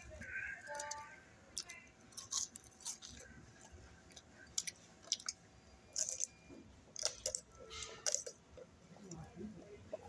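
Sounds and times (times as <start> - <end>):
person chewing fries: 0.2 - 9.3.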